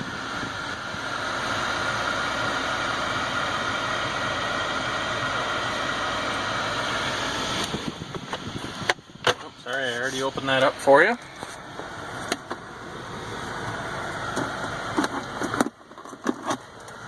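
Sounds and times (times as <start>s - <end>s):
ventilation blower rushing air: 0.0s - 15.9s
car engine idling: 0.0s - 17.0s.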